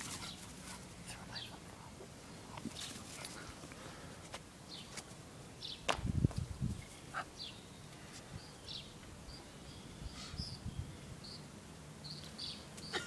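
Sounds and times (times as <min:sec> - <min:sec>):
birds chirping: 0:00.0 - 0:06.0, 0:06.6 - 0:13.0.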